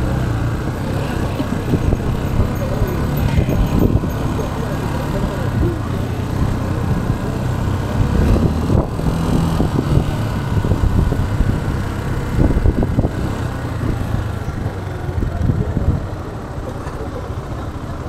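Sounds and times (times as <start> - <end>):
motorcycle engine rumbling: 0.0 - 18.0
street traffic: 0.0 - 18.0.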